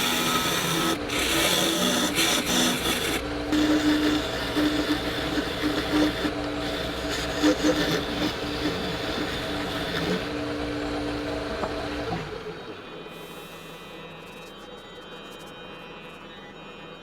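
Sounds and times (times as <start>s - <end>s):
small electric motor humming: 0.0s - 16.9s.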